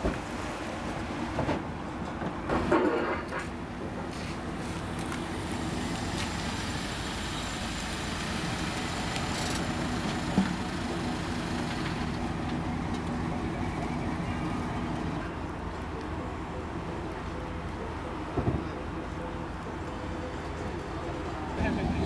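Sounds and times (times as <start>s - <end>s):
engine running steadily: 2.5s - 22.0s.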